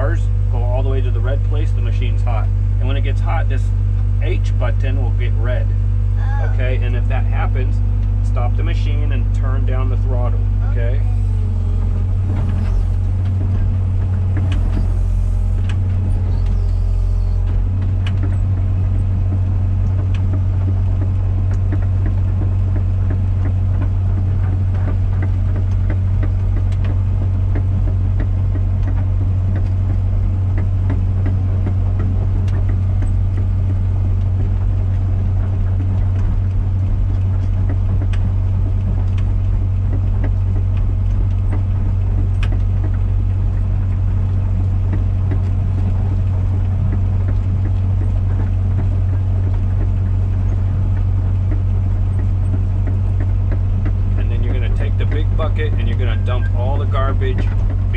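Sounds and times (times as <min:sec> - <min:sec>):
excavator diesel engine droning: 0:00.0 - 0:57.9.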